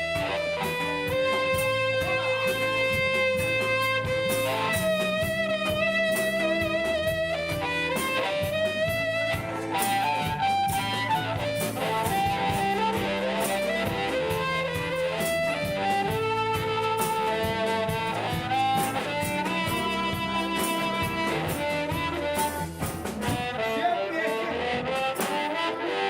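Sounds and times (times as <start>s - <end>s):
guitar: 0.0s - 26.0s
live band playing: 0.0s - 26.0s
steady drum beat: 0.0s - 26.0s.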